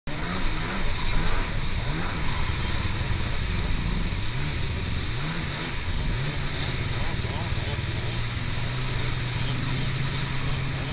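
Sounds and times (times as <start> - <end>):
jet ski engine revving: 0.1 - 10.9
rushing water and spray: 0.1 - 10.9.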